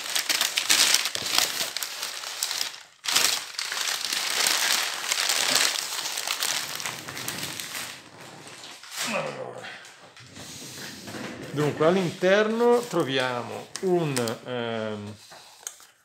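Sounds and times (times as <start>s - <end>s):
packing paper crinkling: 0.0s - 8.9s, 11.6s - 16.0s.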